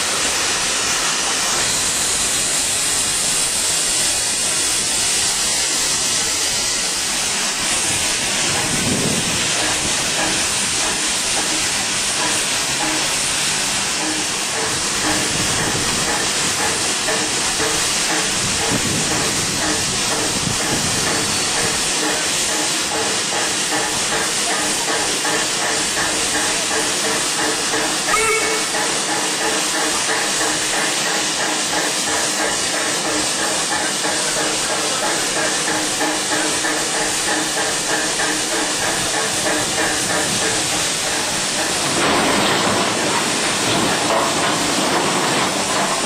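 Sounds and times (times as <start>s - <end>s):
steam locomotive hissing: 0.0s - 46.0s.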